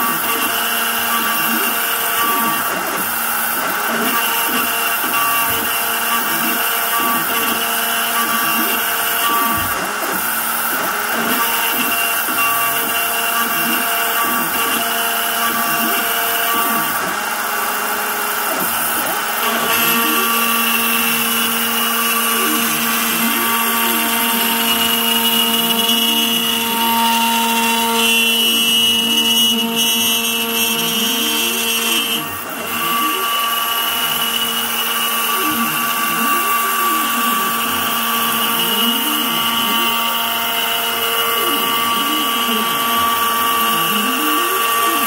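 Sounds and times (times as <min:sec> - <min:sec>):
router spindle whining: 0:00.0 - 0:45.0.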